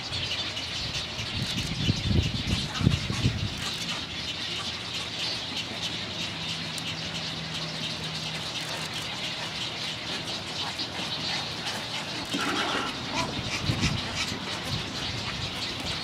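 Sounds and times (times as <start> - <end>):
wading birds calling: 0.0 - 16.0.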